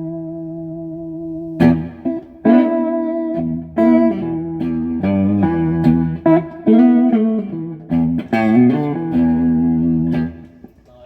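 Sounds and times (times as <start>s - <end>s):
electric guitar notes and chords: 0.0s - 10.8s.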